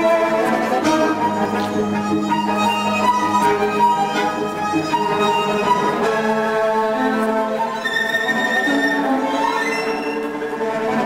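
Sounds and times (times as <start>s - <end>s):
bowed strings slow melody: 0.0s - 11.0s.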